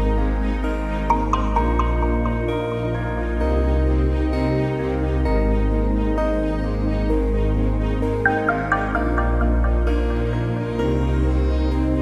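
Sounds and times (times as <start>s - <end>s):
soft sustained chords: 0.0s - 12.0s.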